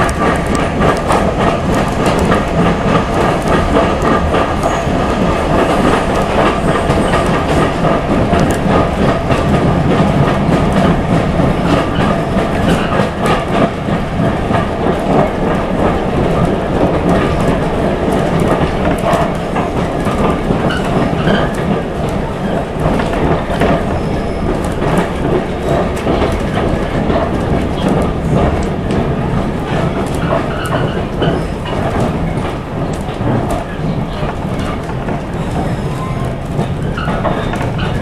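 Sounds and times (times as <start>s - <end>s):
train carriage rumble: 0.0s - 38.0s
wheels clacking over rail joints: 0.0s - 38.0s.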